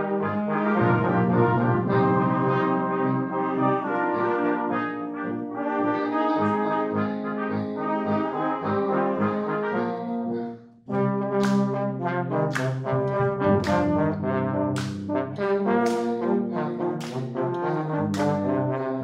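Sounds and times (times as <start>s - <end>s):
brass ensemble playing chords: 0.0s - 19.0s.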